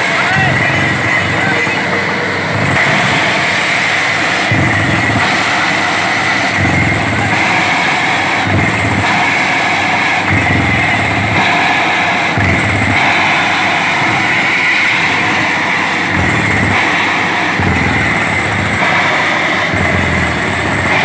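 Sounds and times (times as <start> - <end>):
drilling rig running: 0.0 - 21.0.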